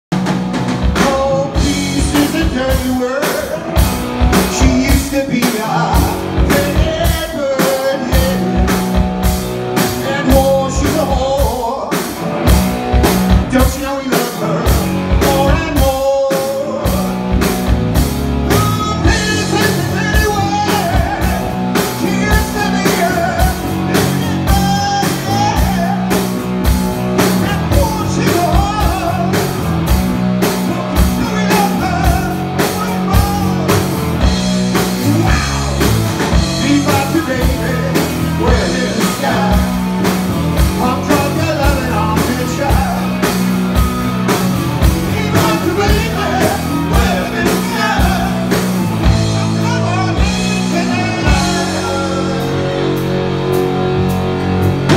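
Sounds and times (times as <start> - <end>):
bass guitar: 0.0 - 54.9
distorted electric guitars: 0.1 - 54.9
drum kit beat: 0.1 - 54.9
man singing: 0.9 - 9.1, 9.7 - 12.2, 13.0 - 17.7, 18.3 - 29.8, 30.4 - 53.7.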